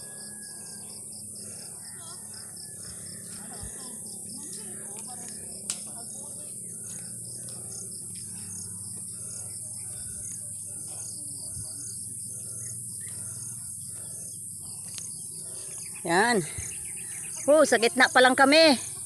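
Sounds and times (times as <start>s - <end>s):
insect chirps: 0.0s - 19.0s
insects buzzing: 0.0s - 19.0s.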